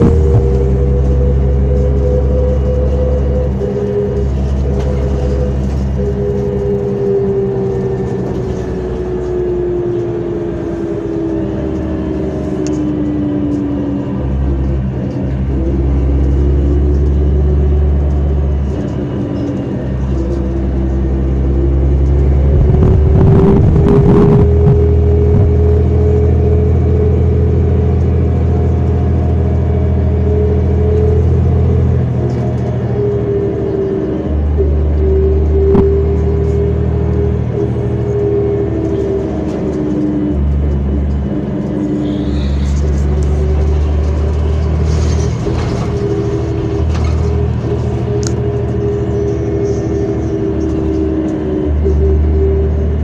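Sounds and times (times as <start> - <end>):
bus engine rumble: 0.0 - 53.0.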